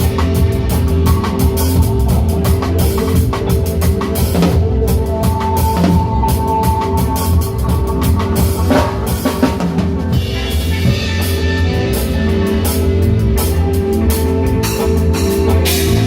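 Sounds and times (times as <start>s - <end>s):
reggae band playing: 0.0s - 16.0s.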